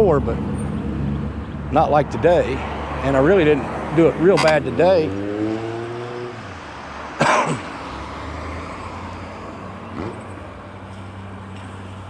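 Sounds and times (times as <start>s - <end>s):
wind and road noise: 0.0s - 12.0s
engine cough: 1.7s - 12.0s.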